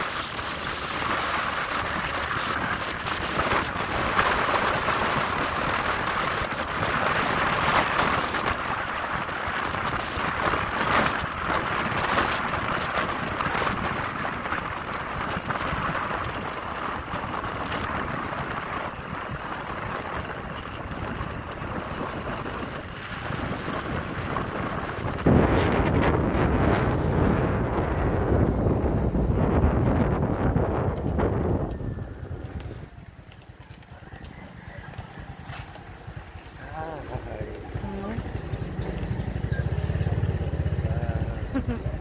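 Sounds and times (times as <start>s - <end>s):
vehicle road noise: 0.0s - 42.0s
wind rushing over microphone: 0.0s - 42.0s.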